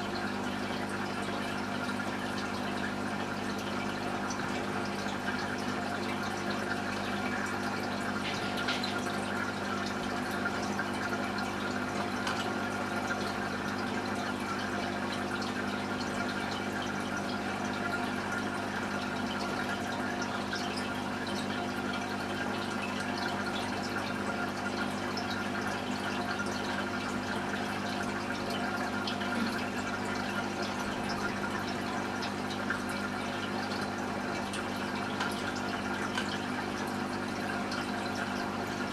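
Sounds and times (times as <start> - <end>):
aquarium pump humming: 0.0 - 38.9
water trickling and splashing: 0.0 - 38.9.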